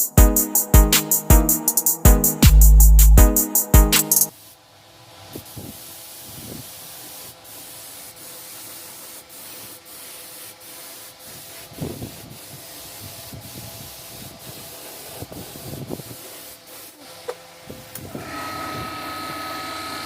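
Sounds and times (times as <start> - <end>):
sanding hiss: 0.0 - 2.4, 3.5 - 18.2.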